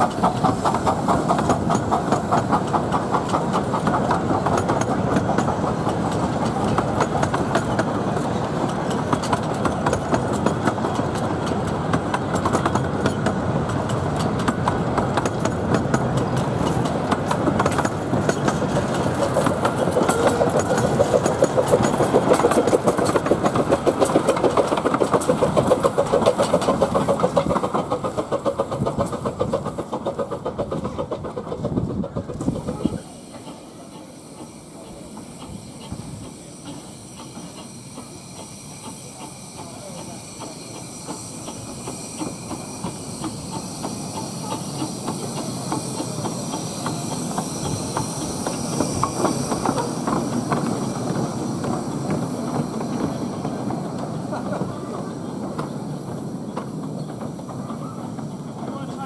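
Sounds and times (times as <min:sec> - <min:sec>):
train wheels clattering over rails: 0:00.0 - 0:59.0.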